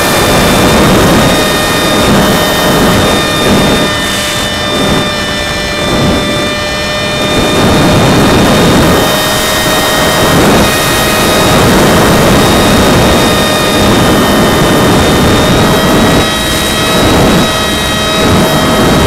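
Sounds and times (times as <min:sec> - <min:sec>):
electric motor high whine: 0:00.0 - 0:19.0
wind rush on microphone: 0:00.0 - 0:19.0.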